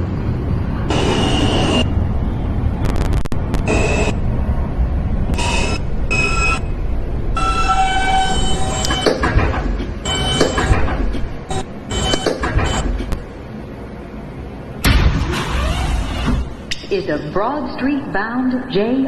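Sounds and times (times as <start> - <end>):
subway train low rumble: 0.0 - 19.0.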